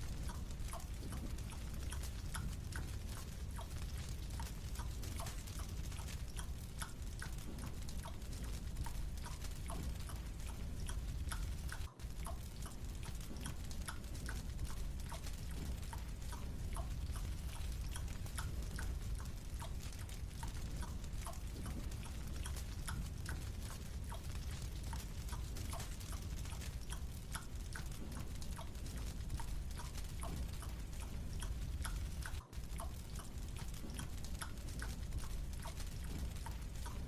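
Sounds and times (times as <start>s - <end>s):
chewing clicks: 0.2s - 37.0s.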